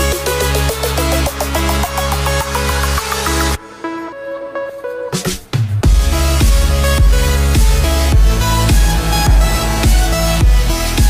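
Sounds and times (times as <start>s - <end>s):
electronic music with heavy bass beat: 0.0s - 11.0s.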